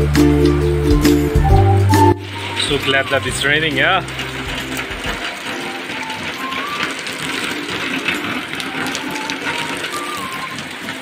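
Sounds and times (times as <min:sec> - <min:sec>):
rain on a metal roof: 0:00.0 - 0:11.0.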